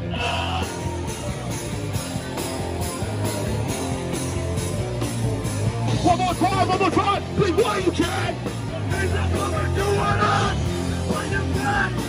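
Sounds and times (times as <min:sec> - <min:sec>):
drums: 0:00.0 - 0:12.0
electric guitars: 0:00.0 - 0:12.0.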